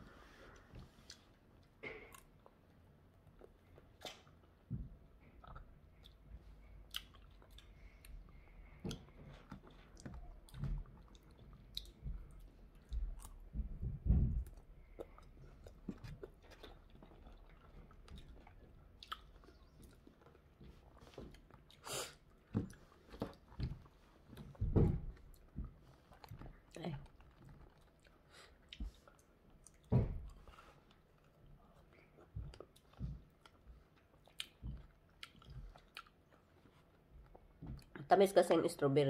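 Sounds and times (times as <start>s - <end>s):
person chewing strawberries: 0.1s - 38.0s.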